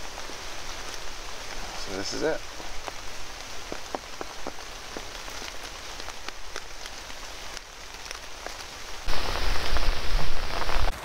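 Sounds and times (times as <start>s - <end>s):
rain on leaves: 0.0s - 11.0s
rushing with low rumble: 0.0s - 11.0s.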